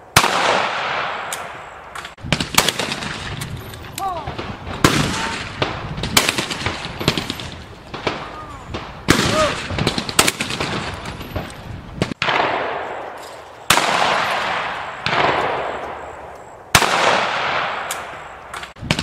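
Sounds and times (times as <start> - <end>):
shotgun shots: 0.1 - 3.6, 4.2 - 19.0.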